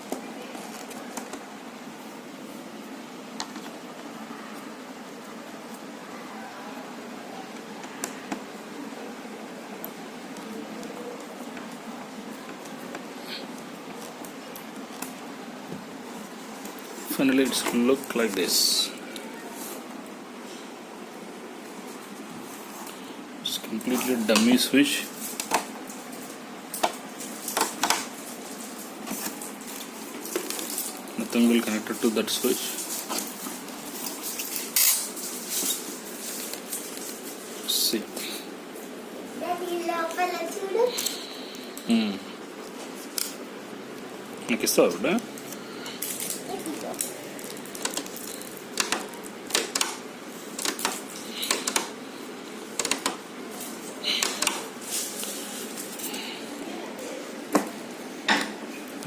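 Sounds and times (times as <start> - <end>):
steady hiss: 7.8 - 59.0.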